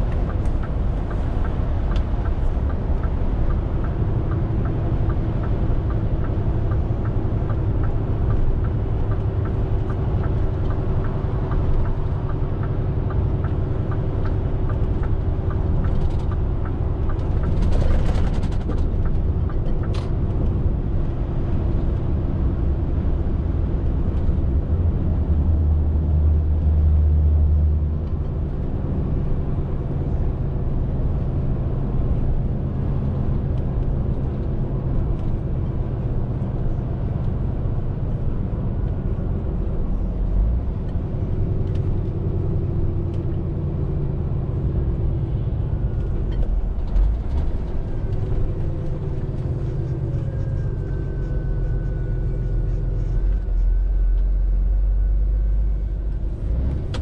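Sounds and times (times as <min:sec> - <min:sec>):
lorry diesel engine and road noise: 0:00.0 - 0:57.0.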